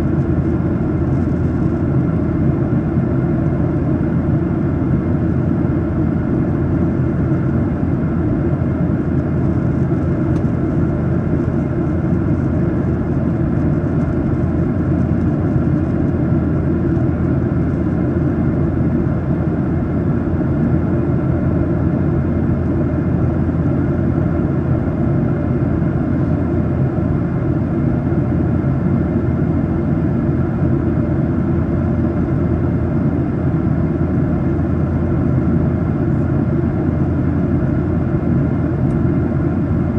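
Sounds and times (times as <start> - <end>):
airplane cabin airflow rush: 0.0 - 39.9
jet engine drone: 0.0 - 39.9.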